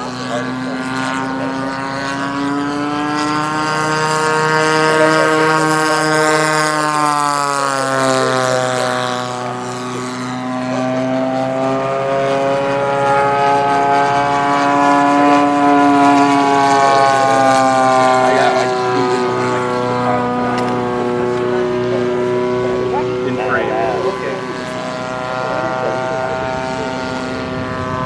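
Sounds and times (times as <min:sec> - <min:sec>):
model plane engine droning: 0:00.0 - 0:28.0.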